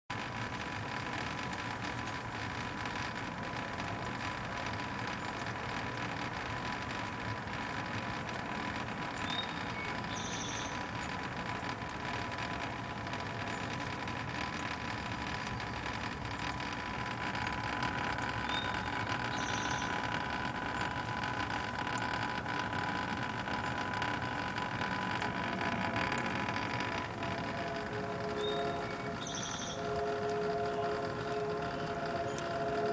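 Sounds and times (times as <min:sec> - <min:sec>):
air conditioner unit humming: 0:00.1 - 0:32.9.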